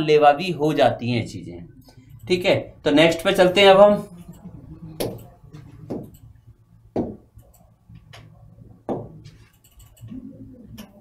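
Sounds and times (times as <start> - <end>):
faint low room hum: 0.0 - 11.0.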